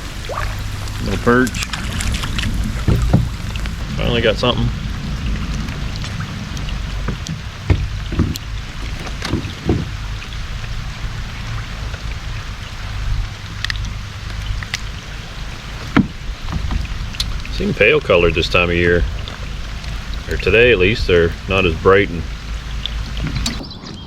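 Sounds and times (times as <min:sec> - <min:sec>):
low rumble: 0:00.0 - 0:23.8
rain on water and kayak: 0:00.0 - 0:24.0.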